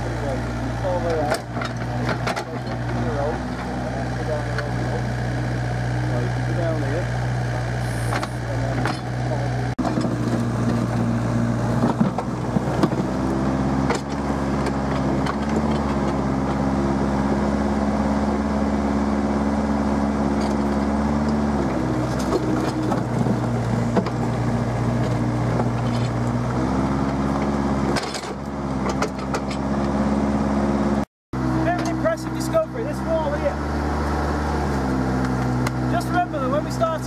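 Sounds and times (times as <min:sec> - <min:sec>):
diesel excavator engine running: 0:00.0 - 0:37.0.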